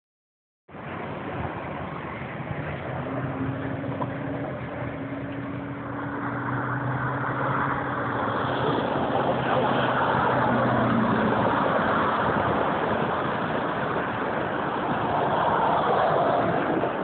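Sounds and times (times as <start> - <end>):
car engine and road noise: 0.7 - 17.0.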